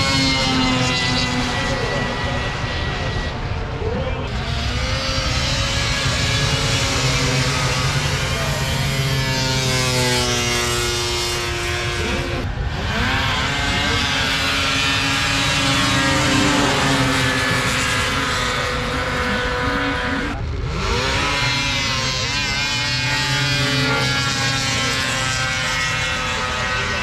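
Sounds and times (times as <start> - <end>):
snowmobile engine at full throttle: 0.0 - 27.0.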